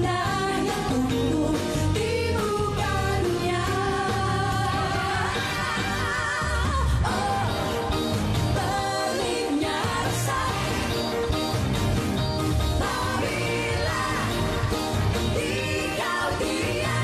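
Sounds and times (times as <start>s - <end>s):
women singing pop song: 0.0s - 11.3s, 12.7s - 17.0s.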